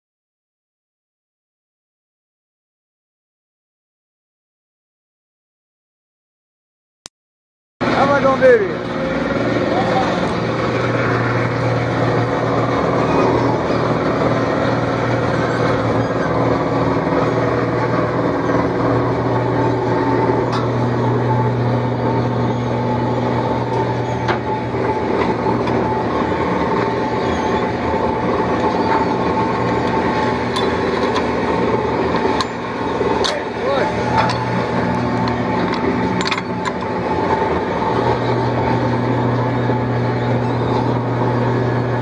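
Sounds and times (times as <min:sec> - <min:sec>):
boat engine droning: 0:07.8 - 0:42.0
machinery whine: 0:07.8 - 0:42.0.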